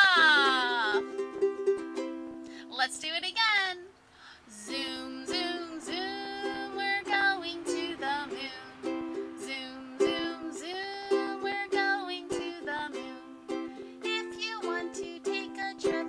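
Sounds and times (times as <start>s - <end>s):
woman singing: 0.0s - 1.2s, 2.6s - 16.0s
ukulele strumming chords: 0.0s - 3.2s, 4.6s - 16.0s.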